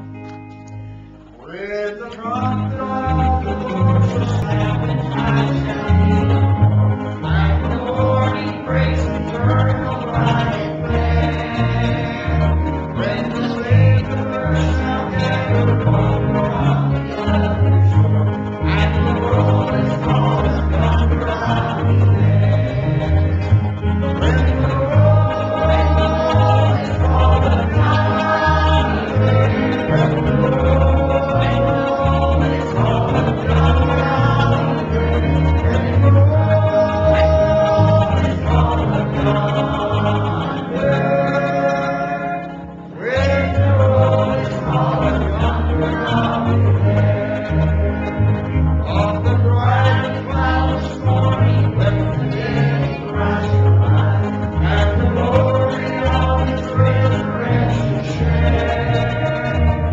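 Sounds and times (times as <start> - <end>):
electric bass line: 0.0 - 1.4, 2.4 - 59.9
guitar: 0.0 - 59.9
voices singing: 1.4 - 59.9.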